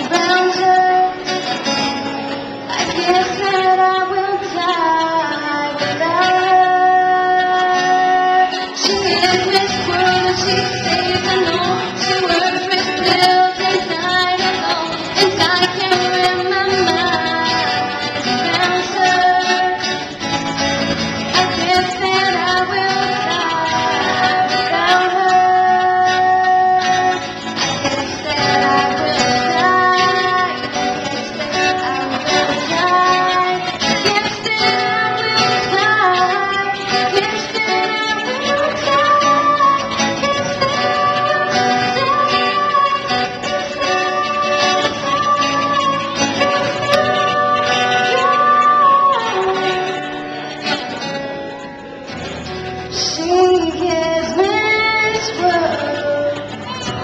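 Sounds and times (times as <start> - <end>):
woman singing: 0.0 - 1.9, 2.5 - 50.8, 52.9 - 57.0
strummed acoustic guitar: 0.0 - 57.0.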